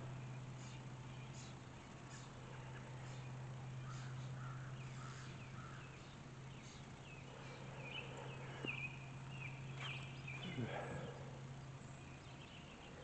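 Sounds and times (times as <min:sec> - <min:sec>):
steady low hum: 0:00.0 - 0:13.0
wild birds calling: 0:00.0 - 0:13.0.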